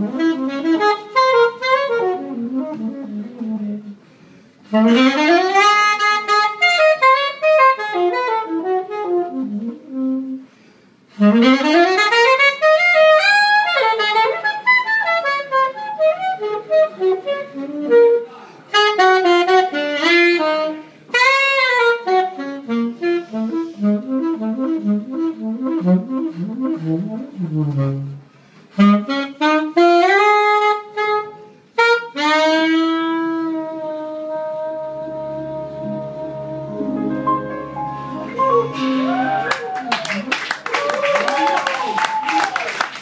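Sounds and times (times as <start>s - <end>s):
saxophone jazz solo: 0.0s - 41.2s.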